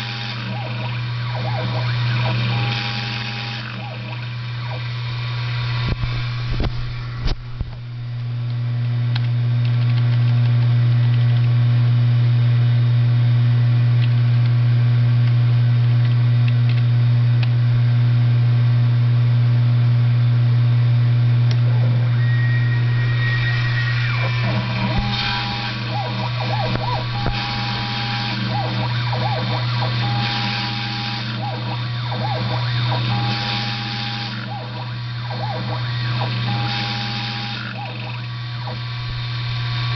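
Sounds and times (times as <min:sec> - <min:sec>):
mill motor hum: 0:00.0 - 0:39.9.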